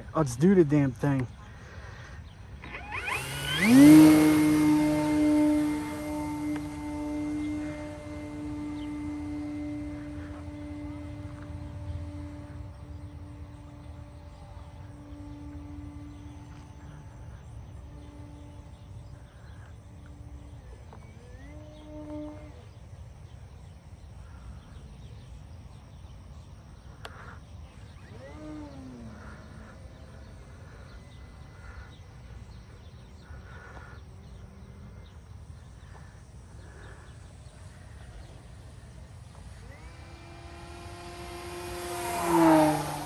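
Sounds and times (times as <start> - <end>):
rc airplane motor whine: 0.0 - 43.0.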